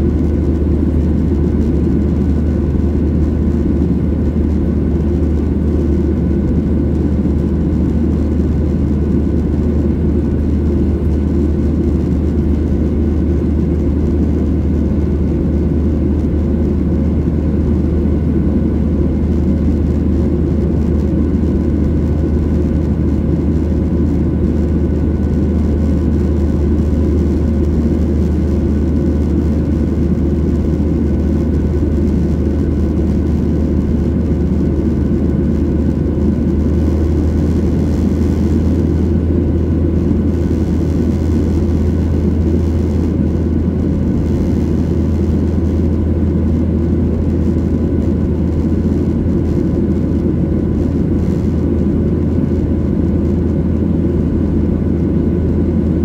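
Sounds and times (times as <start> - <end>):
airliner cabin drone: 0.0 - 56.0
faint steady hums: 0.0 - 56.0.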